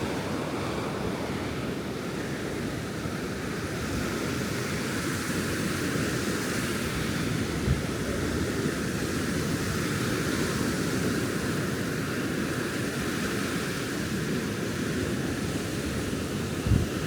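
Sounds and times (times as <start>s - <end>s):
ocean waves surf on beach: 0.0s - 17.0s
wind rumble on microphone: 2.7s - 17.0s.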